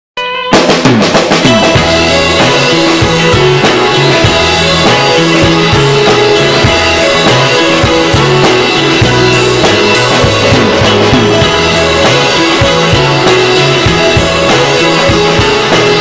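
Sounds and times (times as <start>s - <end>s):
instrumental rock band playing: 0.2s - 16.0s.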